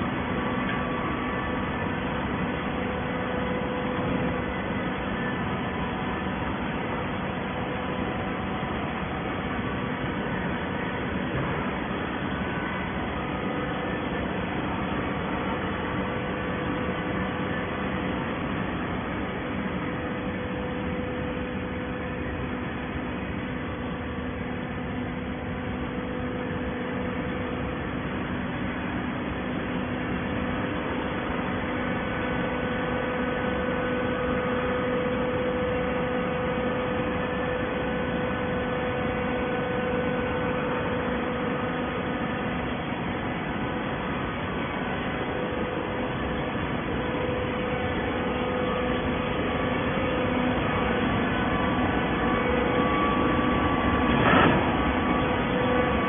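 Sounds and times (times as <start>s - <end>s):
baler machine hum: 0.0s - 56.0s.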